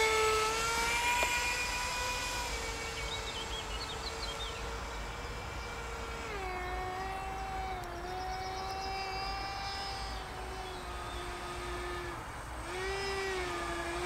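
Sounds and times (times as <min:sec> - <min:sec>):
model plane motor whine: 0:00.0 - 0:14.0.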